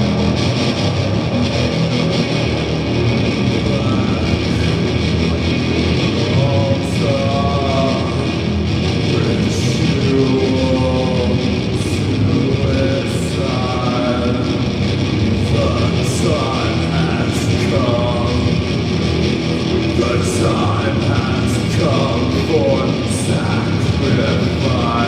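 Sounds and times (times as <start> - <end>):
distorted guitars and bass: 0.0 - 25.0
person singing: 0.0 - 25.0.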